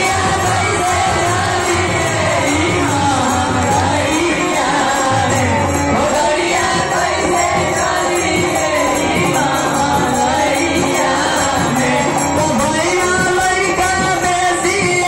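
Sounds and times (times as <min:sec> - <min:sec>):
boy singing: 0:00.0 - 0:15.0
dholak drum: 0:00.0 - 0:15.0
harmonium: 0:00.0 - 0:15.0.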